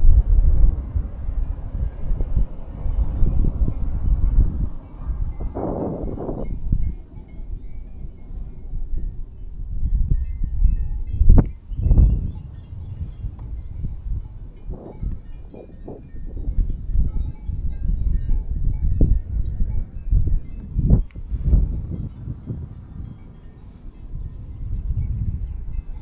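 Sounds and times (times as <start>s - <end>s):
insects chirring: 0.0s - 26.0s
wind gusting on microphone: 0.0s - 26.0s.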